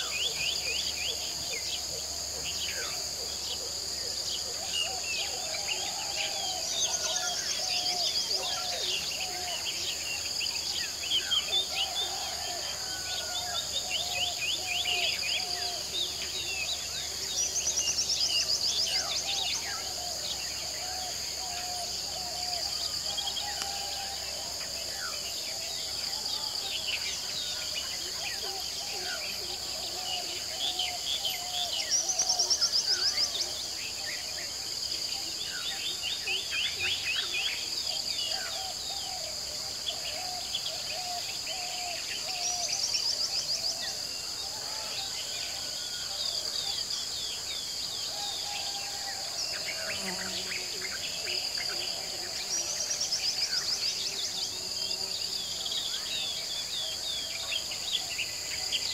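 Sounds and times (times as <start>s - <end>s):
crickets droning: 0.0s - 58.9s.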